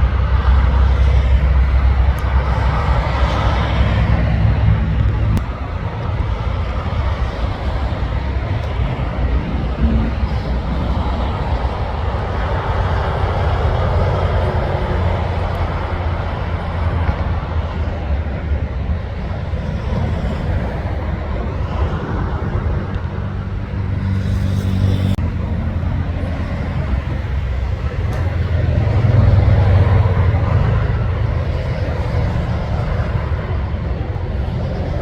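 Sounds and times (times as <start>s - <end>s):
truck engine drone: 0.0s - 35.0s
tyre and road noise: 0.0s - 35.0s.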